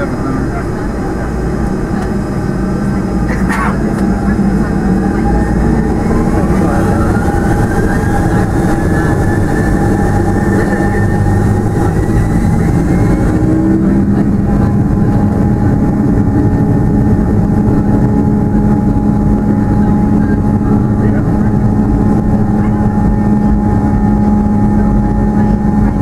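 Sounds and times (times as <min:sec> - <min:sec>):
jet engine drone with whine: 0:00.0 - 0:26.0.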